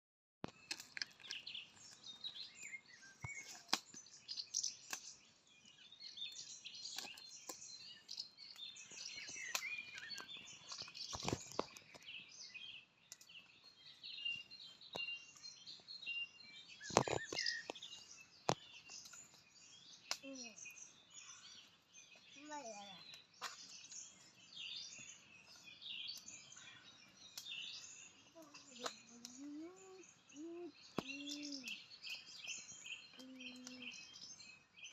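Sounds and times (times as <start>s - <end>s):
small birds chirping: 0.4s - 34.9s.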